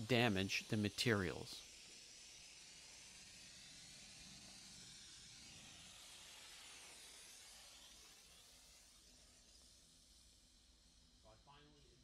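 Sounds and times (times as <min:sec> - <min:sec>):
steam hissing from nozzle: 0:00.0 - 0:12.0.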